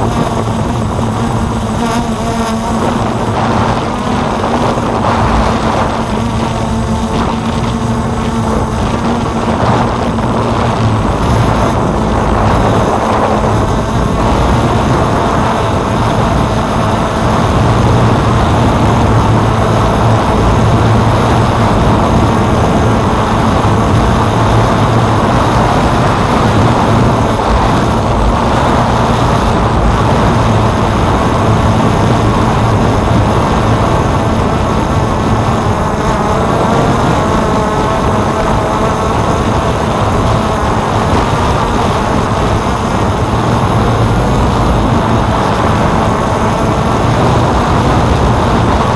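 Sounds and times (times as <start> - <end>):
drone propellers buzzing: 0.0 - 48.9.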